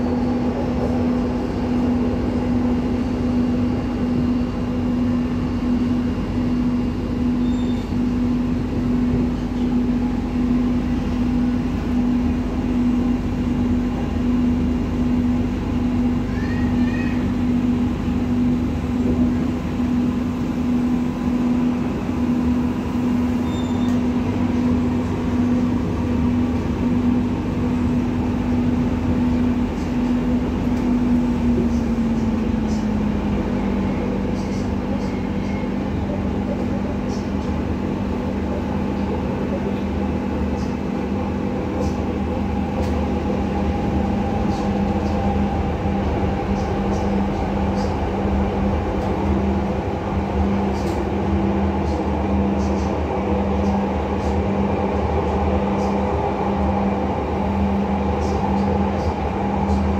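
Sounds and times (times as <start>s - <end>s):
light-rail train rumbling: 0.0s - 59.9s.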